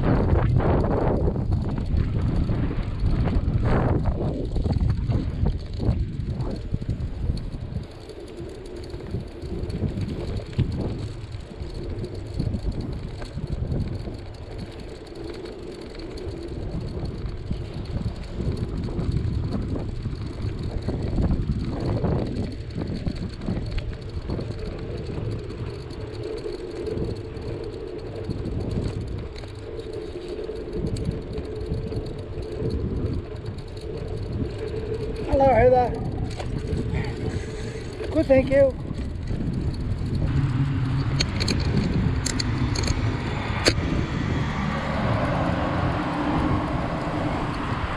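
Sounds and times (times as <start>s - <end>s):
bicycle rolling on a road: 0.0s - 47.9s
low road rumble: 0.0s - 47.9s
wind buffeting microphone: 0.0s - 47.9s.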